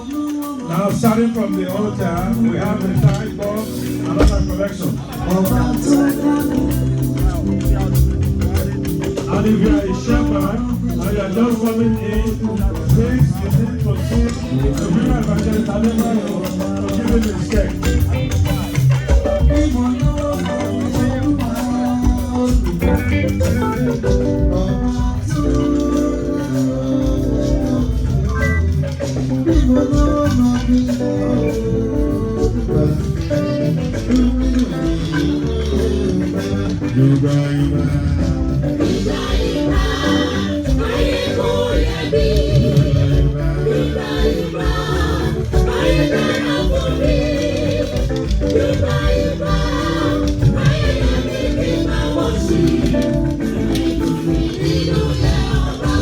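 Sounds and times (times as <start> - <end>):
church band keyboard: 0.0 - 56.0
people singing: 0.0 - 56.0.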